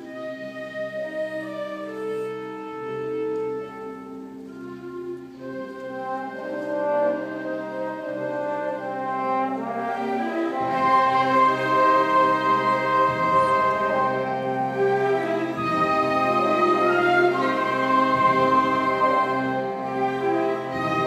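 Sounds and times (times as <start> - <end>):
concert band sustained chords: 0.0 - 21.0.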